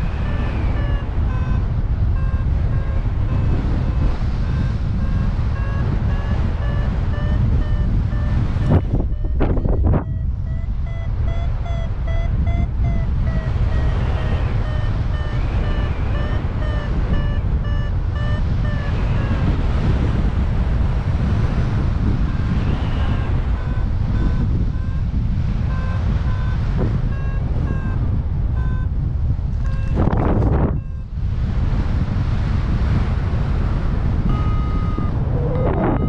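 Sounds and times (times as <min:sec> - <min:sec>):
variometer short beeps: 0:00.0 - 0:20.2, 0:22.0 - 0:28.9, 0:29.6 - 0:31.4, 0:34.2 - 0:36.0
wind rushing over microphone: 0:00.0 - 0:36.0.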